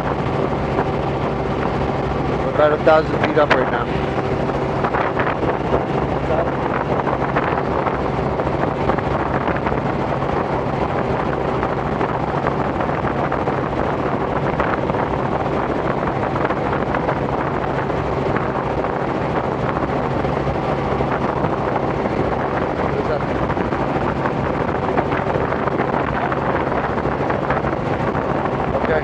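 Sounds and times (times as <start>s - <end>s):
helicopter engine and rotors: 0.0s - 29.0s
wind rush: 0.0s - 29.0s.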